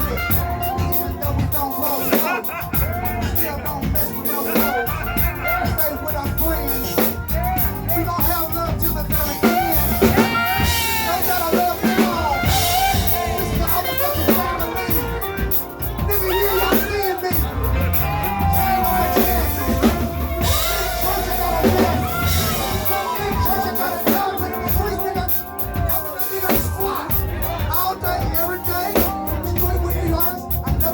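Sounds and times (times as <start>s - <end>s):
heavy bass: 0.0s - 1.9s, 2.5s - 30.9s
drum kit: 0.0s - 30.9s
person singing: 0.0s - 30.9s.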